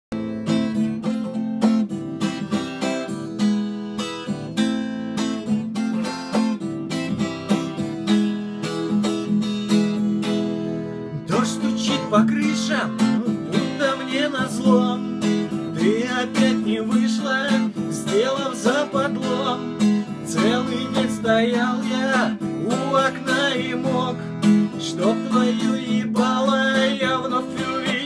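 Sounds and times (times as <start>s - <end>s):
acoustic guitar strumming: 0.1s - 28.0s.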